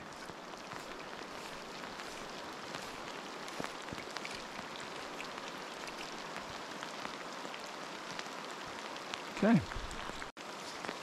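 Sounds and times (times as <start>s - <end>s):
rain falling on stream: 0.0s - 11.0s.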